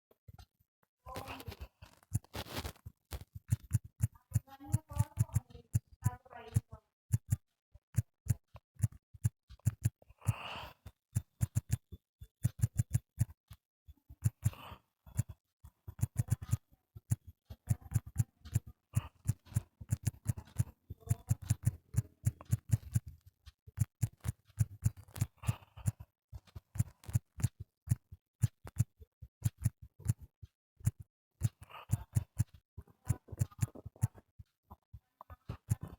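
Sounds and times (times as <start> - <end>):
fingertips tapping on touchscreen: 1.1 - 35.9.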